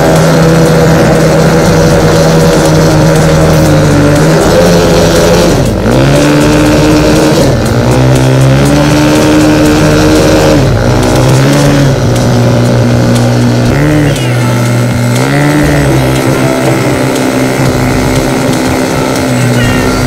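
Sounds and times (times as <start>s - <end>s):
quad engine revving: 0.0s - 20.0s.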